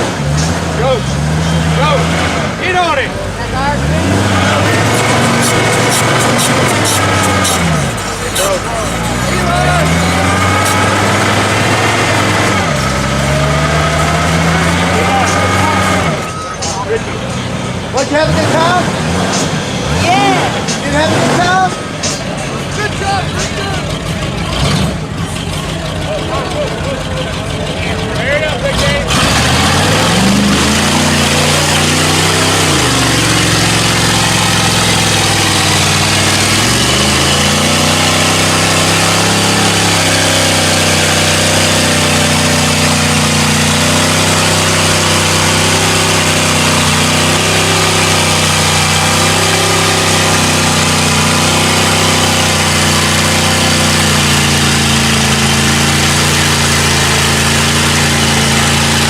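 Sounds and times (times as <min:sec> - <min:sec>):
truck engine revving high: 0:00.0 - 0:59.0.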